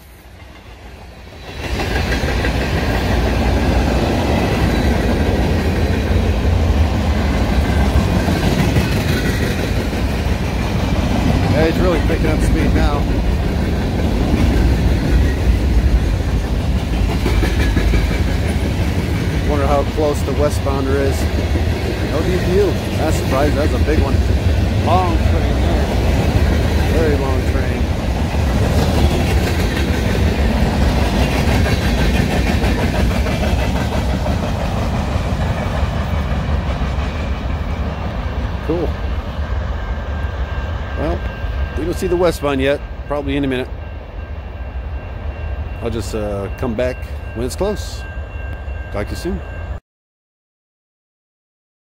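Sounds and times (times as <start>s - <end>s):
train wheels rumbling on rails: 0.0s - 49.8s.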